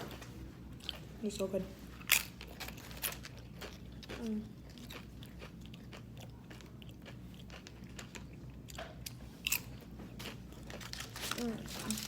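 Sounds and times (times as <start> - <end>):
chewing and crunching chips: 2.0 - 12.0.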